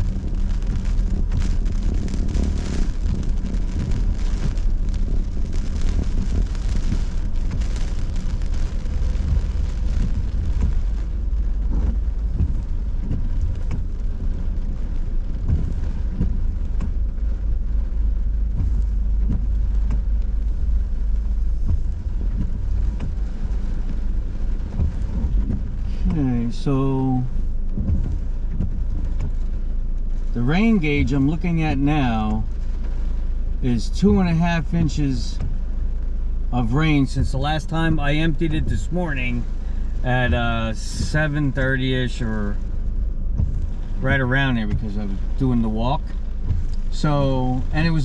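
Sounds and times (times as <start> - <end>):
car rumble: 0.0 - 48.0
rain hitting car: 0.0 - 48.0.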